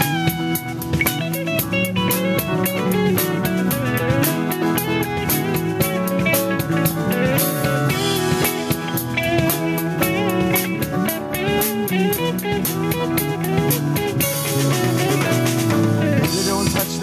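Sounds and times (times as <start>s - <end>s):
drum kit beat: 0.0s - 17.0s
guitars: 0.0s - 17.0s
keyboard: 0.0s - 17.0s
lead line with bent notes: 0.0s - 17.0s.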